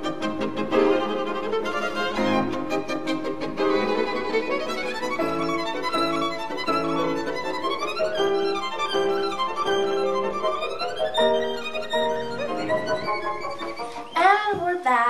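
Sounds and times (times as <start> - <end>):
violin melody: 0.0 - 14.6.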